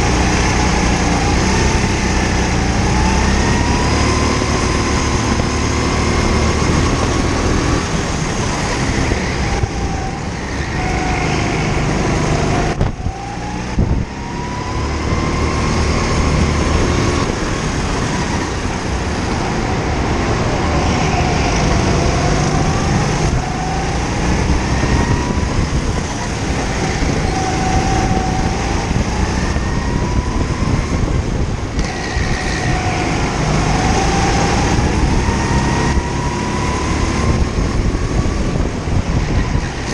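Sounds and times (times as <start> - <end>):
go-kart engine: 0.0 - 39.9.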